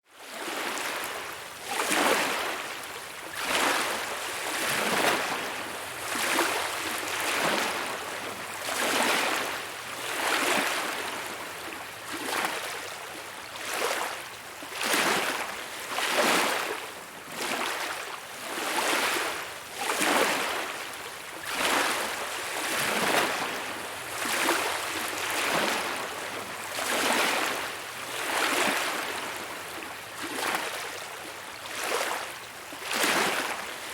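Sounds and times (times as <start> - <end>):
small waves lapping on beach: 0.1 - 33.9.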